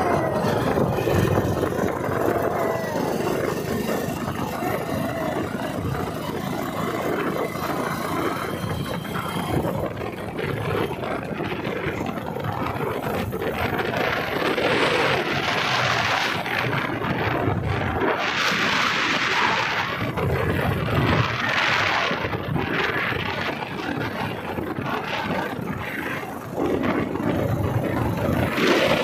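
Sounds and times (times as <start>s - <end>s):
motorbike engine running: 0.0s - 29.0s
wind buffeting microphone: 0.0s - 29.0s.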